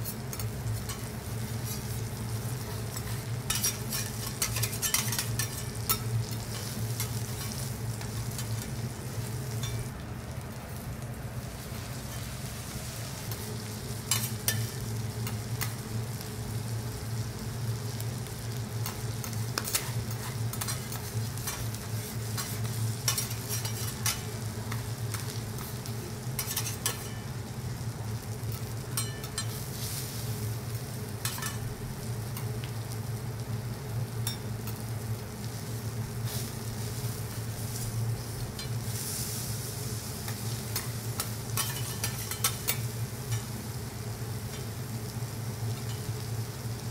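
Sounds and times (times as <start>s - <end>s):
food sizzling on griddle: 0.0s - 46.9s.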